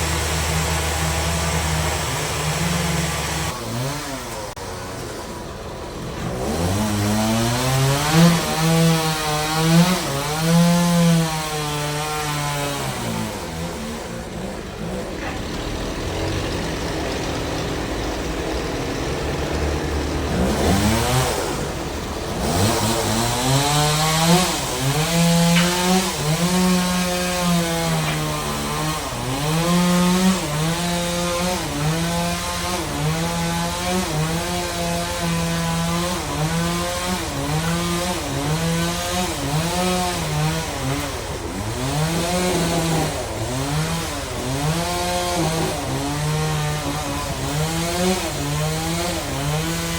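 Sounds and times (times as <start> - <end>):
bandsaw cutting log: 0.0 - 49.9.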